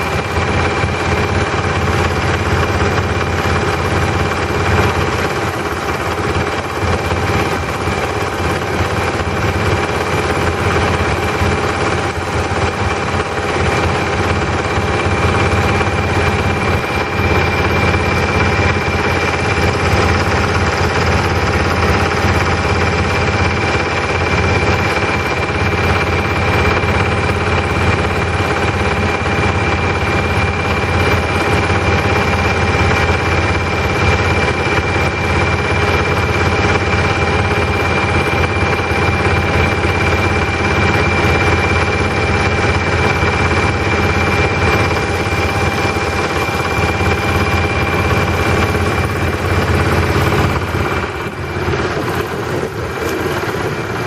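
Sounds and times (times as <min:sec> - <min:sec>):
boat engine drone: 0:00.0 - 0:54.0.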